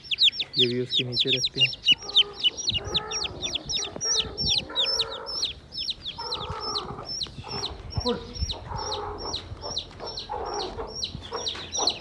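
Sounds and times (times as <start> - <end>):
adult chickens calling: 0.0 - 12.0
chicks peeping: 0.0 - 12.0.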